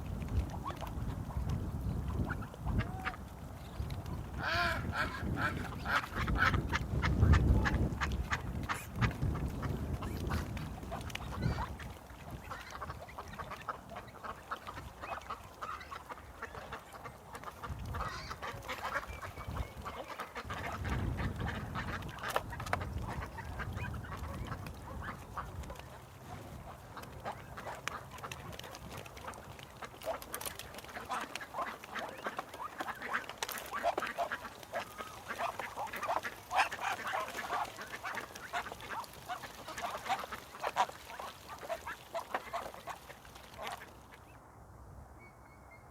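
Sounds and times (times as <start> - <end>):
ducks quacking: 0.5 - 3.5, 4.2 - 44.2.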